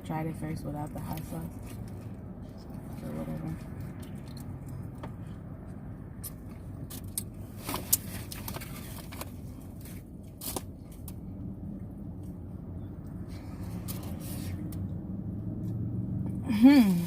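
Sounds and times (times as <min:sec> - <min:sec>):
rustles and clicks handling food: 0:01.1 - 0:14.9.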